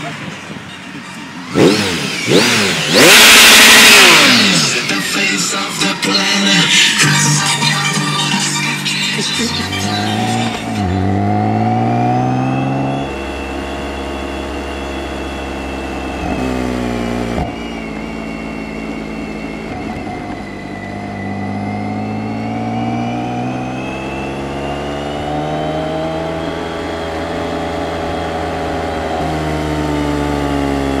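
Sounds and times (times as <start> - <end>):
motorcycle engine accelerating: 1.2 - 31.0.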